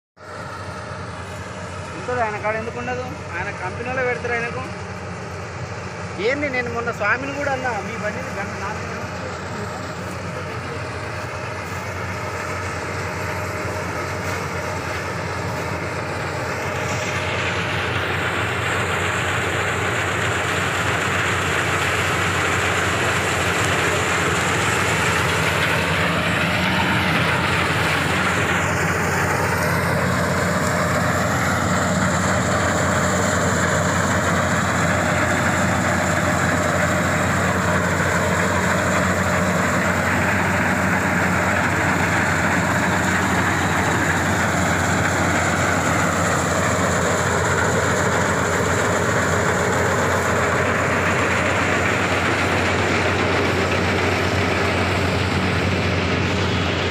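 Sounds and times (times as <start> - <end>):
combine harvester drone: 0.2 - 56.9.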